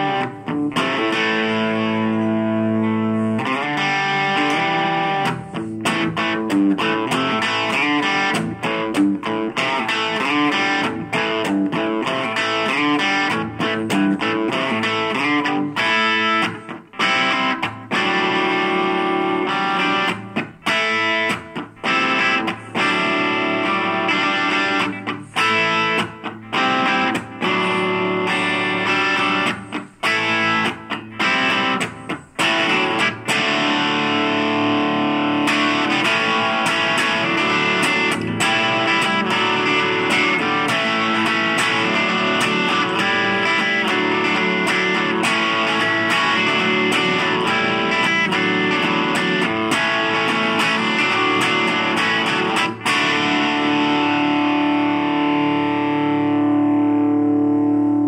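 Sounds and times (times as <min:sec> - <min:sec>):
electric guitar blues-rock riffs: 0:00.0 - 0:58.0.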